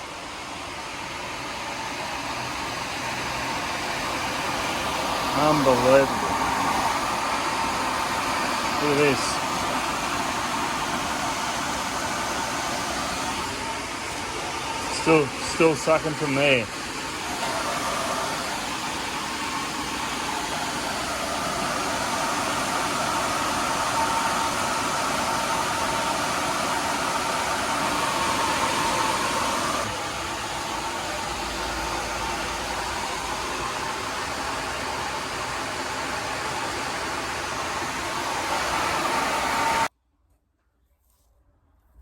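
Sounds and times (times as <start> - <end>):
blower fan rushing air: 0.0 - 39.9.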